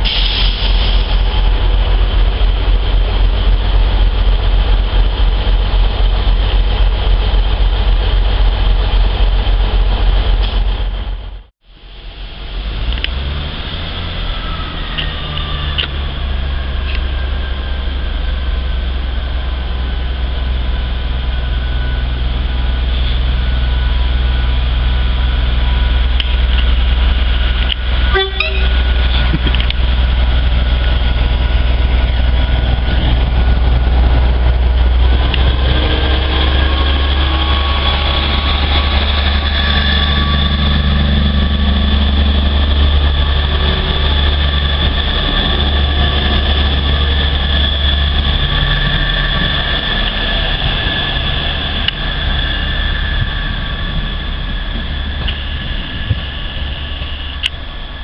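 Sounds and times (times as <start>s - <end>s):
diesel train engines humming: 0.0s - 58.0s.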